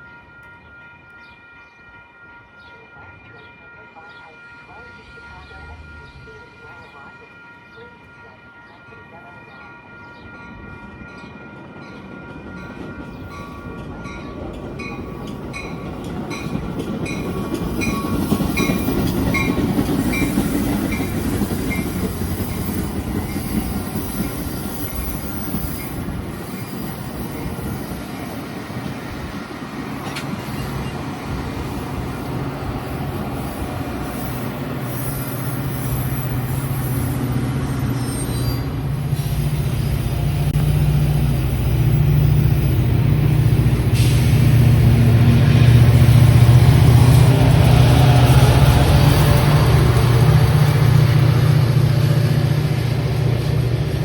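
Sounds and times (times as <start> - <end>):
train rolling on rails: 0.0 - 54.0.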